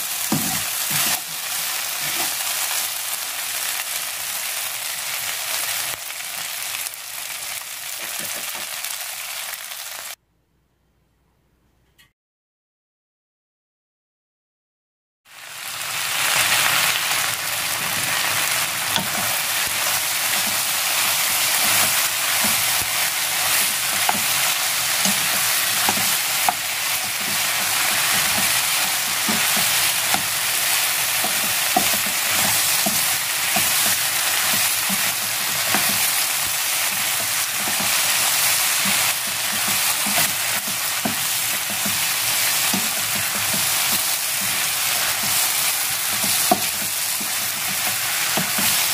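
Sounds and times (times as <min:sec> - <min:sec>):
food sizzling in frying pan: 0:00.0 - 0:10.2, 0:15.3 - 0:48.9.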